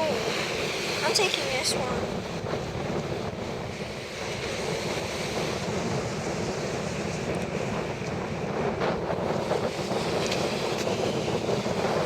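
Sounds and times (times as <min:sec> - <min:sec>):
sea waves washing ashore: 0:00.0 - 0:12.0
wind buffeting microphone: 0:00.0 - 0:12.0.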